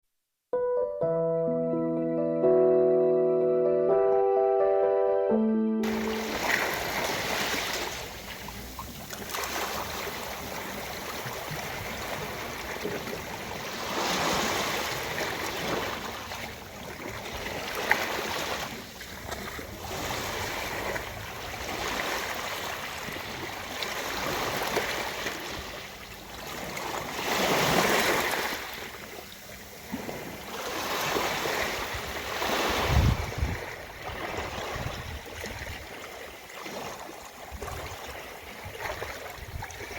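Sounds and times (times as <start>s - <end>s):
ocean waves washing onto beach: 5.8s - 39.9s.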